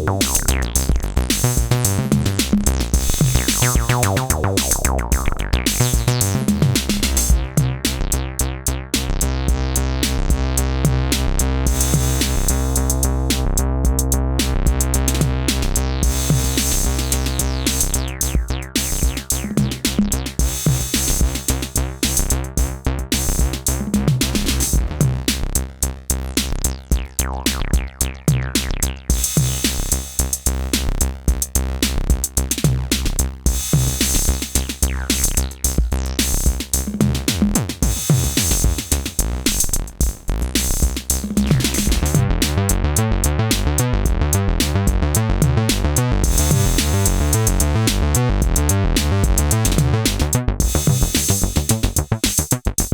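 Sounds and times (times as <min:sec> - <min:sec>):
drum machine beat: 0:00.0 - 0:08.3, 0:09.0 - 0:52.9
synthesizer bass line: 0:00.0 - 0:52.9.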